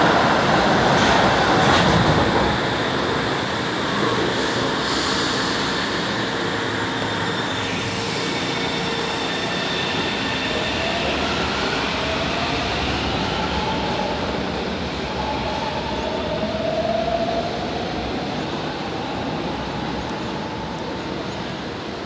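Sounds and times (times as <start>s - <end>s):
train whine rising in pitch: 0.0s - 21.5s
train wheels rumbling on rail: 0.0s - 22.0s.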